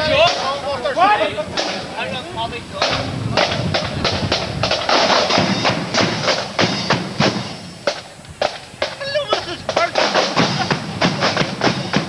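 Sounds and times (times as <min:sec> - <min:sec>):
marching band drums: 0:00.0 - 0:12.0.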